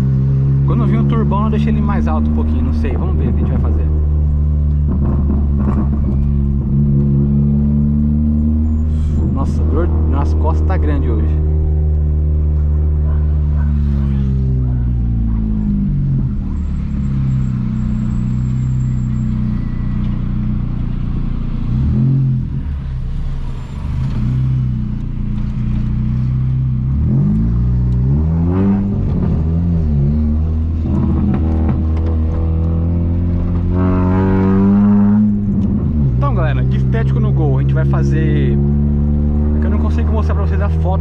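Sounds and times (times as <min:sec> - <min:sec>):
car engine revving while driving: 0:00.0 - 0:41.0.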